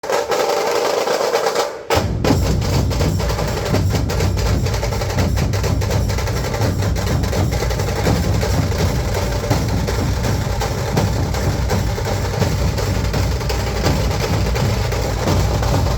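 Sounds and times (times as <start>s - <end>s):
tasha drum rapid strokes: 0.0s - 15.9s
deep dhol drum beat: 1.9s - 15.9s.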